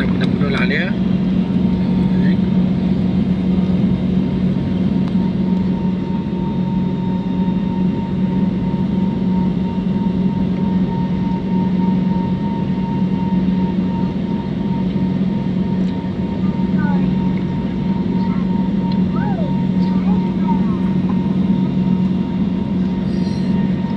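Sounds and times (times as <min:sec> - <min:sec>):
jet engines droning: 0:00.0 - 0:23.9.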